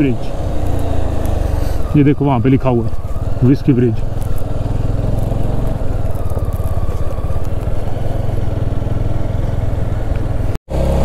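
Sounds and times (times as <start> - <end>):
deep engine drone: 0.0 - 11.0
motorcycle engine running: 0.0 - 11.0.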